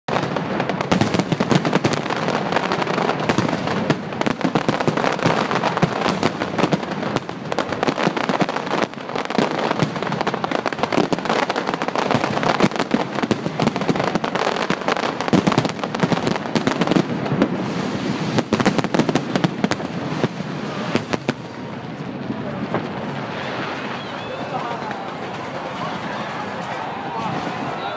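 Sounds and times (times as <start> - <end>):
fireworks bangs and crackling: 0.1 - 27.9.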